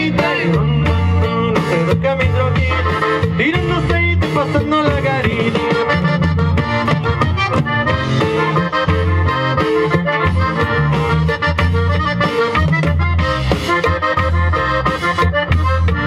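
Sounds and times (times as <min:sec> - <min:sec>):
accordion melody: 0:00.0 - 0:16.0
live band playing: 0:00.0 - 0:16.0.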